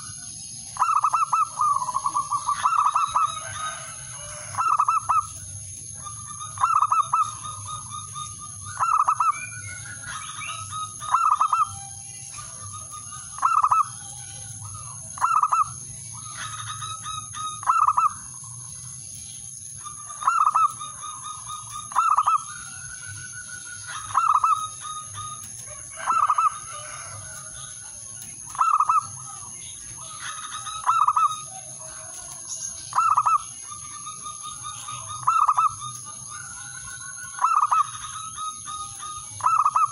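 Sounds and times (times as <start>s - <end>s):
dove cooing: 0.0s - 18.6s, 19.8s - 39.9s.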